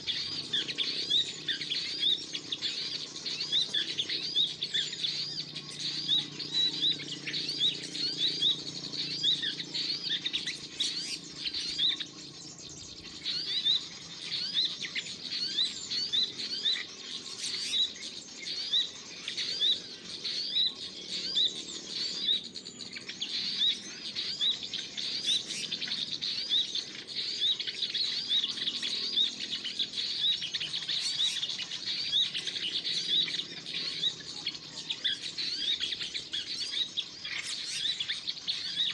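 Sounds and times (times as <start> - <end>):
songbird high thin chirping: 0.0 - 38.9.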